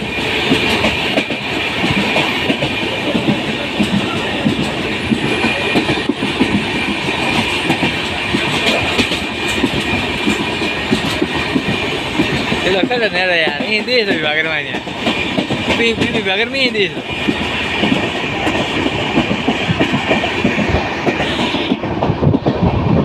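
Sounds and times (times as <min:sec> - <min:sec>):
train rumble and rushing: 0:00.0 - 0:23.0
train wheels clattering: 0:00.0 - 0:23.0.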